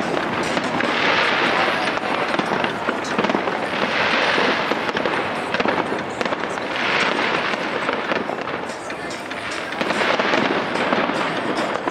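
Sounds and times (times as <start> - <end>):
fireworks crackling: 0.0 - 11.9
fireworks hiss: 0.0 - 11.9.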